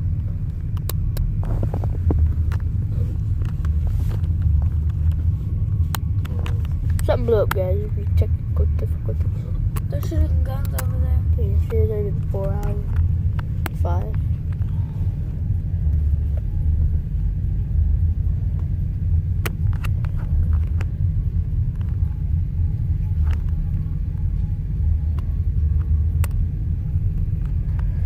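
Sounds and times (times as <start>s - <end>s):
low vehicle rumble: 0.0s - 28.0s.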